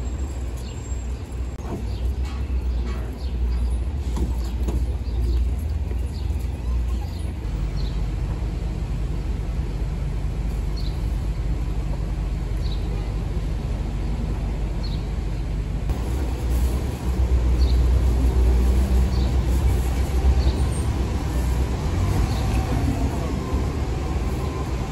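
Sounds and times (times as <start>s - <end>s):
street traffic rumble: 0.0s - 24.9s.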